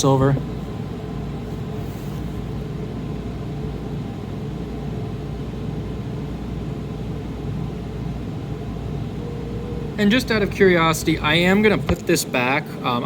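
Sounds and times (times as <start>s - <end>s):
machine hum and whir: 0.0s - 13.0s.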